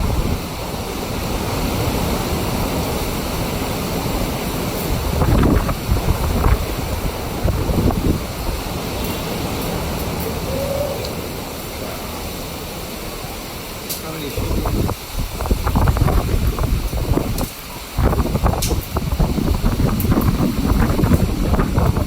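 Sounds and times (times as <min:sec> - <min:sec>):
heavy rain: 0:00.0 - 0:22.0
storm wind buffeting microphone: 0:00.0 - 0:22.0.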